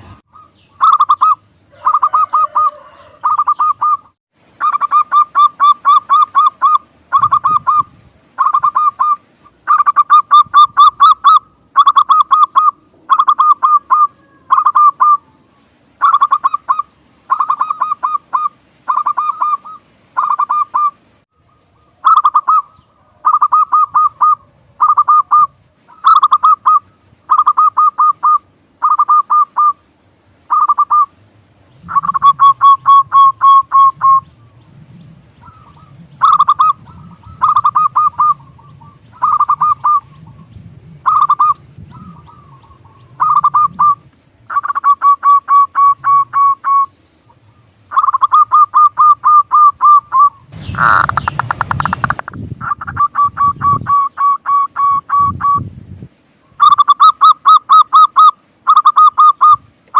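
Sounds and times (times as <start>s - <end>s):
dove cooing: 0.3s - 21.0s, 22.0s - 29.8s, 30.5s - 31.2s, 31.8s - 55.6s.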